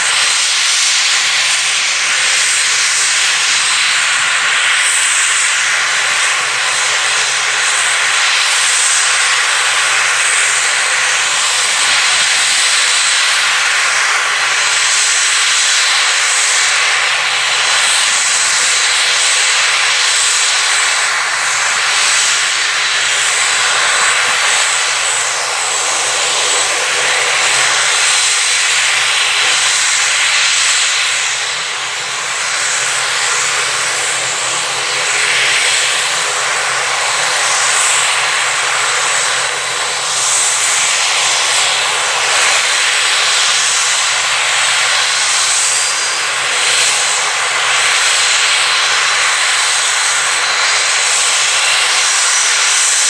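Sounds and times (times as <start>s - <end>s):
aircraft engines running: 0.0s - 53.0s.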